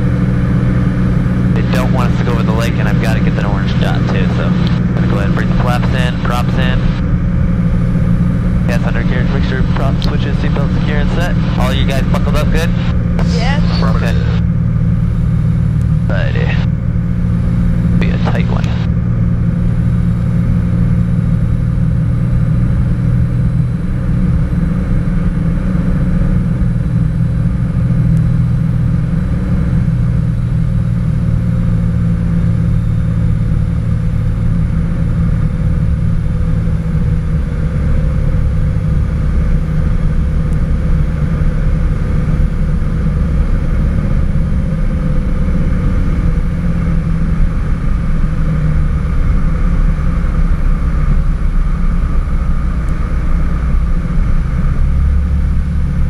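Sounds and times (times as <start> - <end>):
airplane engine and propeller drone: 0.0 - 56.0.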